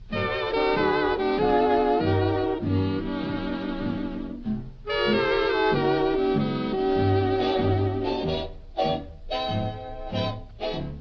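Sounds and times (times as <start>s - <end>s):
big band swing music: 0.0s - 11.0s.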